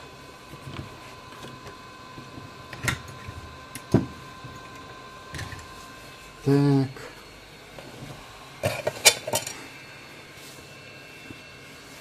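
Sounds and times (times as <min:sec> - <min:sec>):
hot-air soldering station hissing: 0:00.0 - 0:12.0.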